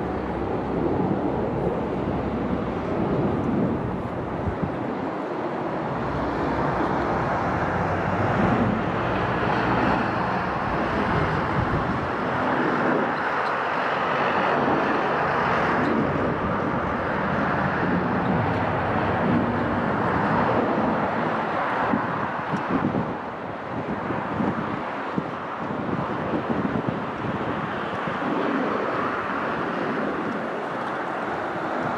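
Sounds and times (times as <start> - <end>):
jet engines rushing: 0.0 - 31.9.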